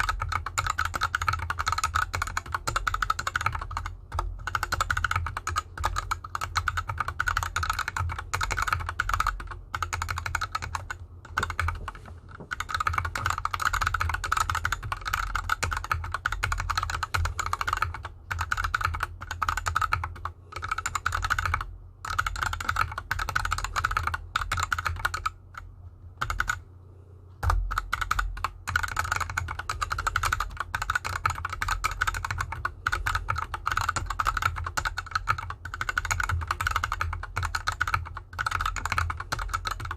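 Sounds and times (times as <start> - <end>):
fast typing on mechanical keyboard: 0.0 - 26.6, 27.4 - 39.9.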